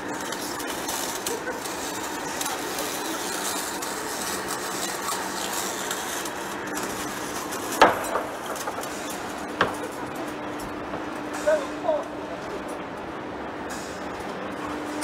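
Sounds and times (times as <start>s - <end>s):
lathe cutting steel: 0.0s - 12.3s
low machine hum: 0.0s - 15.0s.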